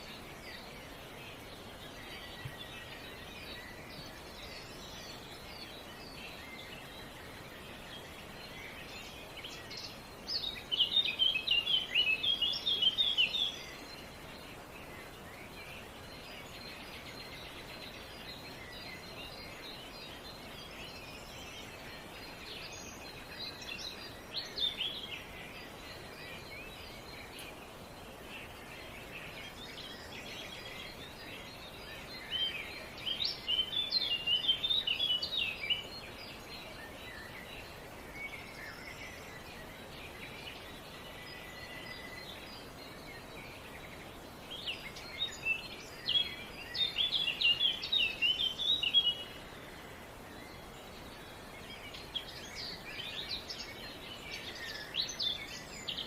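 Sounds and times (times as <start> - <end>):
songbirds chirping: 0.0 - 56.0
steady outdoor hiss: 0.0 - 56.0.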